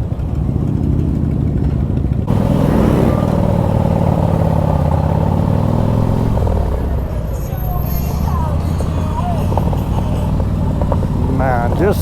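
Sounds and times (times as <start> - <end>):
motorcycle engine loud exhaust: 0.0 - 12.0.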